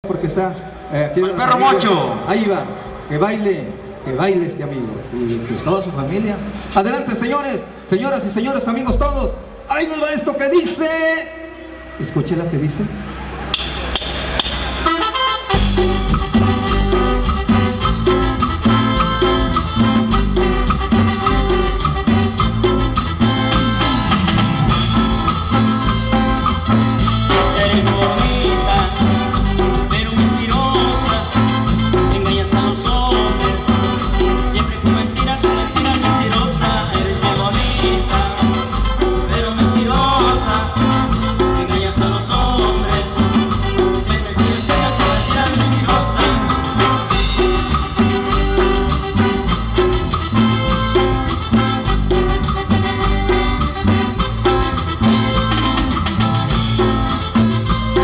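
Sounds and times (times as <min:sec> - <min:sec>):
latin dance band playing: 0:00.0 - 0:58.0.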